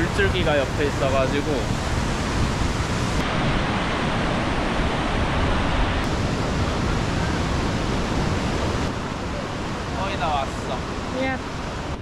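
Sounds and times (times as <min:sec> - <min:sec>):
white-water rapids roaring: 0:00.0 - 0:12.0.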